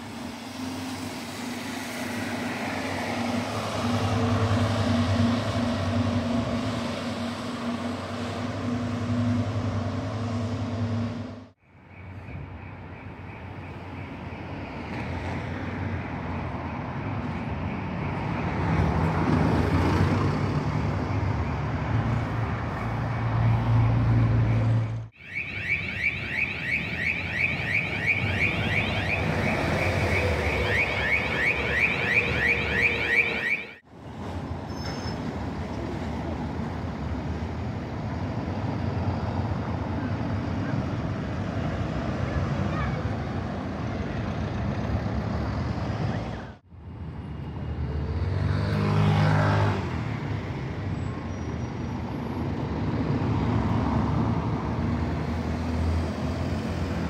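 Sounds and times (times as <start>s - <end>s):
bus diesel engines running: 0.0s - 25.2s, 25.8s - 48.3s.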